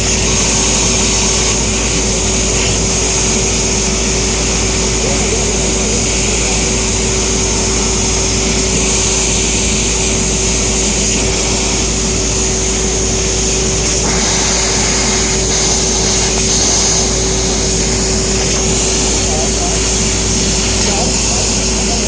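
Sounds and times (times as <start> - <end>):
laser cutter hissing and humming: 0.0 - 22.0.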